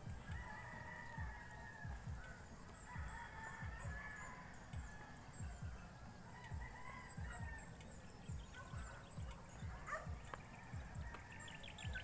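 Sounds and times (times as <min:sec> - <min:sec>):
roosters crowing: 0:00.0 - 0:07.9, 0:08.5 - 0:12.0
small birds chirping: 0:00.0 - 0:12.0.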